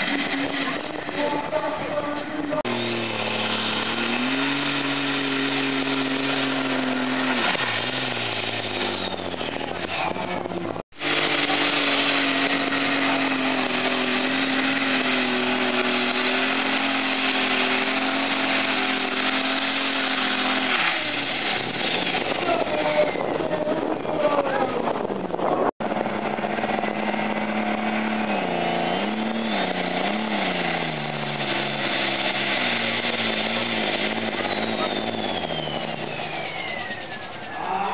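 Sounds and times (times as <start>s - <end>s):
tractor engine running flat out: 0.0s - 37.9s.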